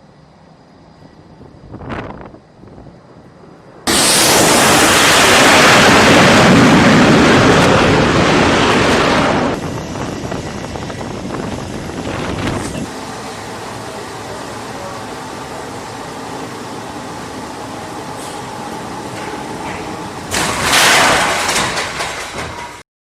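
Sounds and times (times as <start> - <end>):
jet engine roar: 0.0 - 22.8.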